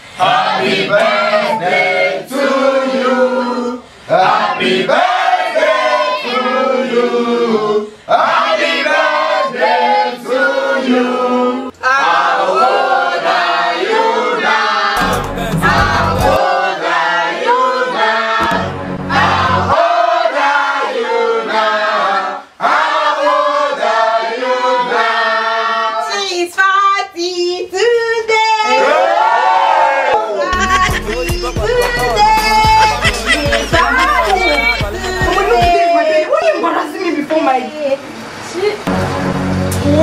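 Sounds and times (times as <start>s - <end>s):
group singing: 0.0s - 26.2s, 29.8s - 36.2s.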